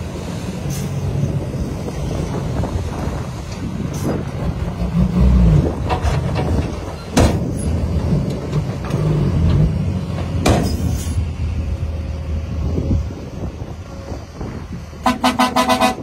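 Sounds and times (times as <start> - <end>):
diesel truck engine revving: 0.0 - 16.0.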